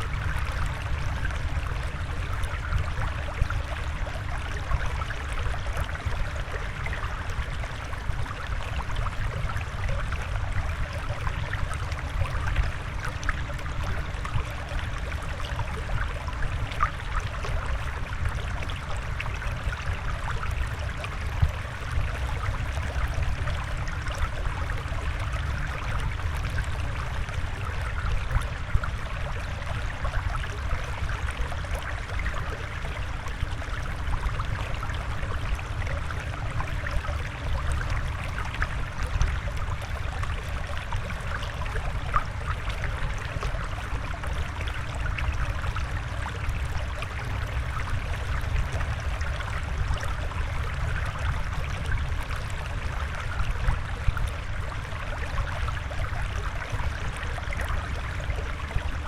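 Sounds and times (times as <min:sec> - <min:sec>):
water flowing and trickling: 0:00.0 - 0:59.0
water splashes and drips: 0:00.0 - 0:59.0.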